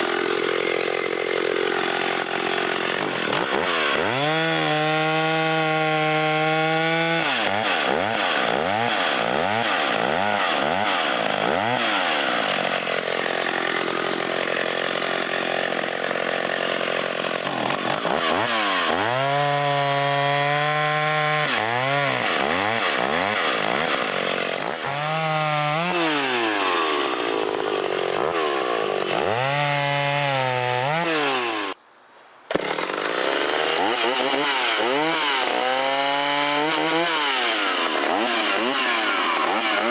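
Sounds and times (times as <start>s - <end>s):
chainsaw cutting wood: 0.0s - 31.8s, 32.5s - 39.9s.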